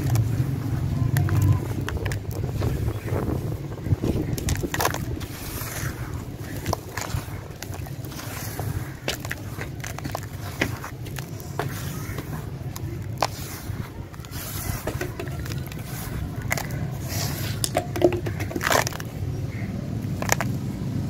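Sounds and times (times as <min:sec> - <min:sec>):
sand mix crunching and falling: 0:00.0 - 0:20.6.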